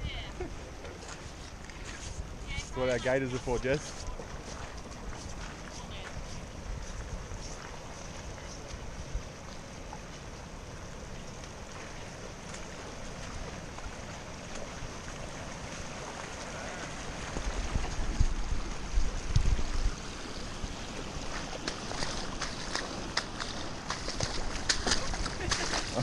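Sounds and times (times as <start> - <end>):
running water: 0.0 - 26.0
boots splashing through water: 0.4 - 10.4, 11.1 - 26.0.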